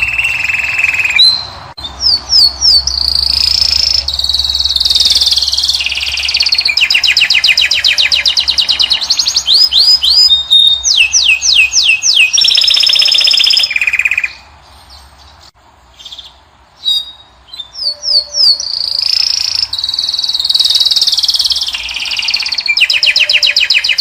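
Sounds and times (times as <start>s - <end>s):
finch singing trills: 0.0s - 24.0s.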